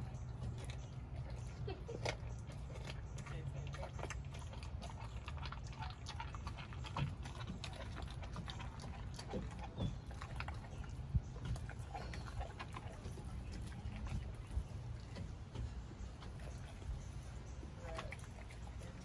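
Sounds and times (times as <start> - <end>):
dog chewing meat and bone: 0.0 - 19.0
low background rumble: 0.0 - 19.0.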